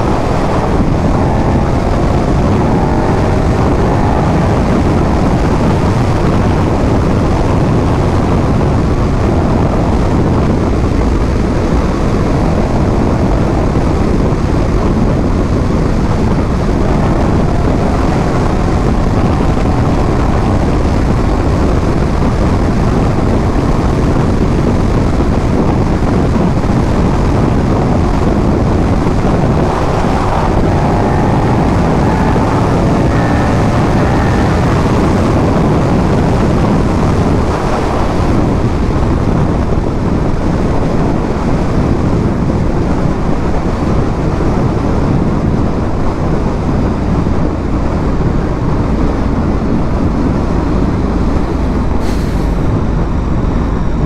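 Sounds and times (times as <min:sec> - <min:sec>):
faint motorcycle engine: 0:00.0 - 0:54.0
wind rushing over microphone: 0:00.0 - 0:54.0.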